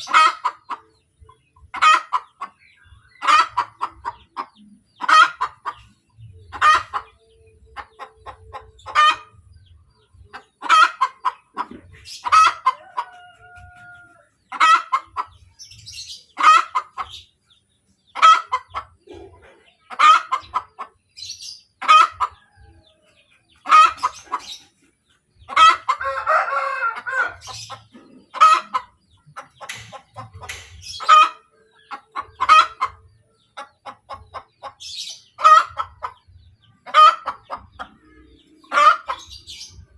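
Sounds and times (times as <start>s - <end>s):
hen cackling: 0.0s - 1.0s, 1.7s - 9.4s, 10.3s - 15.4s, 16.3s - 17.2s, 18.2s - 20.9s, 21.8s - 22.4s, 23.6s - 24.7s, 25.5s - 39.8s.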